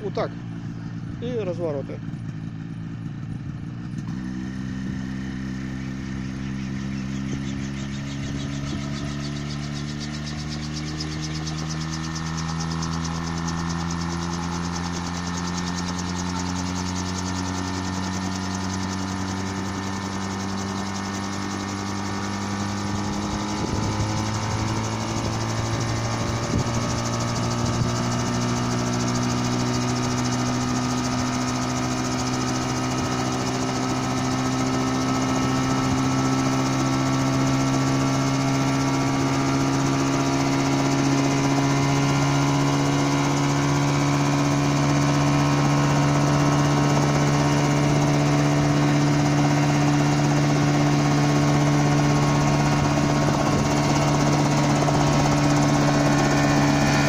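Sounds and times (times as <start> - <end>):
model helicopter engine running: 0.0 - 57.0.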